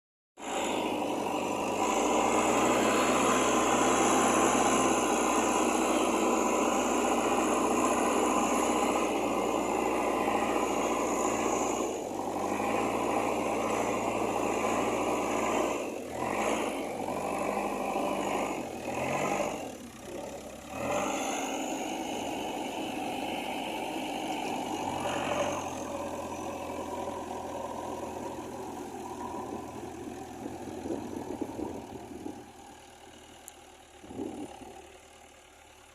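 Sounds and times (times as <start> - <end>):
backhoe diesel engine running: 0.4 - 35.9.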